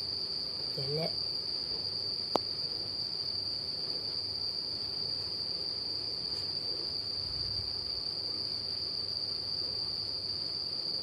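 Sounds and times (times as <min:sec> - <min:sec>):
cricket trilling: 0:00.0 - 0:11.0
faint low hum: 0:00.0 - 0:11.0.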